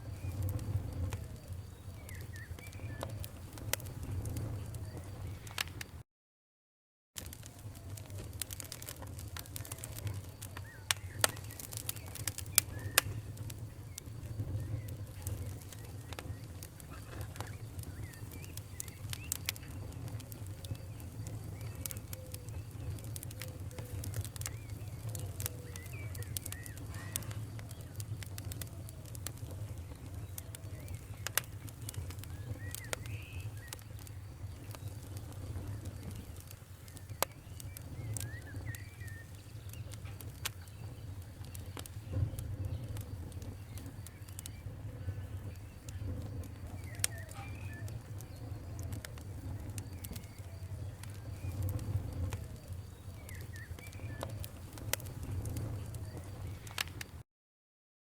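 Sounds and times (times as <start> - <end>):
low rumble of flames: 0.0 - 6.0, 7.2 - 57.2
wood fire crackling and popping: 0.0 - 6.0, 7.2 - 57.2.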